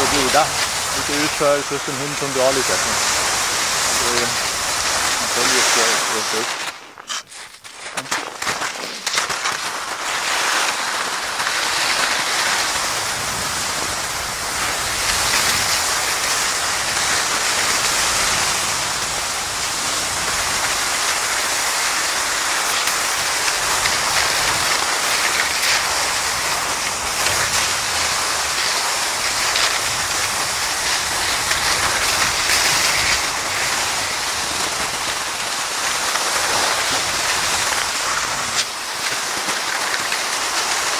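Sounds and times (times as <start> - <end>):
skis scraping over snow: 0.0 - 40.9.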